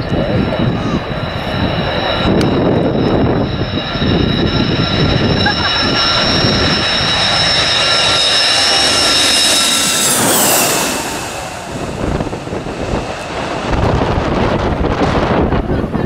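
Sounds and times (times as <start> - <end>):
jet engines whining and roaring: 0.0 - 16.0.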